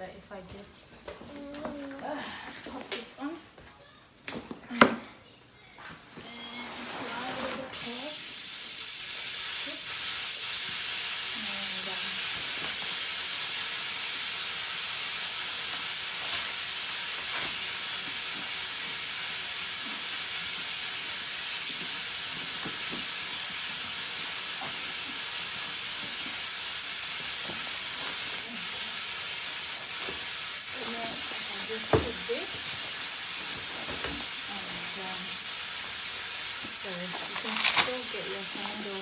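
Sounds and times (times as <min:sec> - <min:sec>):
steady high hiss: 0:00.0 - 0:05.6, 0:06.2 - 0:39.0.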